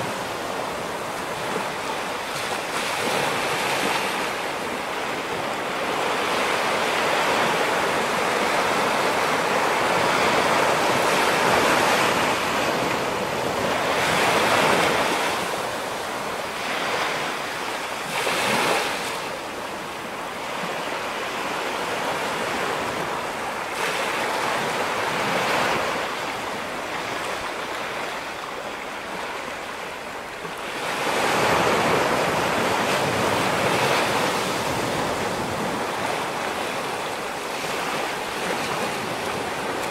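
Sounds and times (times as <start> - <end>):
ocean waves breaking on rocks: 0.0 - 39.9.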